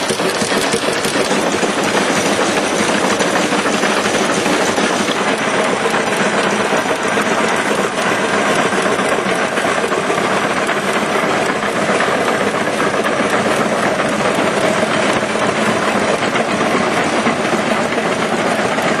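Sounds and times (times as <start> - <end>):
tractor engine clattering: 0.0 - 19.0.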